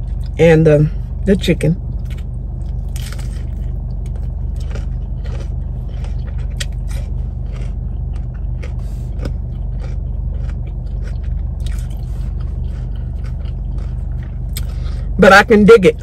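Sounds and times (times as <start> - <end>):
car engine idling: 0.0 - 16.0
person chewing sandwich: 1.9 - 15.2.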